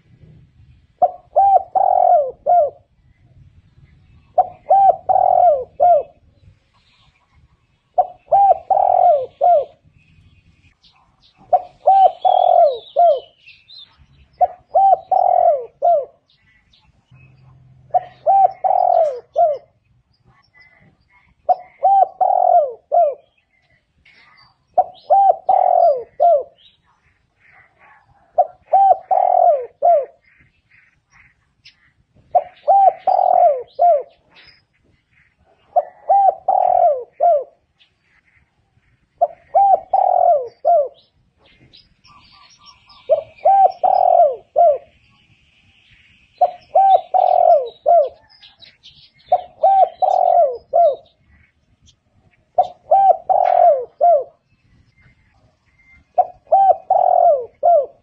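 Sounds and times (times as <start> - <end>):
dove cooing: 0.0 - 3.2, 4.0 - 6.4, 7.8 - 9.9, 10.9 - 31.4, 32.2 - 34.6, 35.2 - 45.0, 46.4 - 58.0
small birds chirping: 0.0 - 58.0.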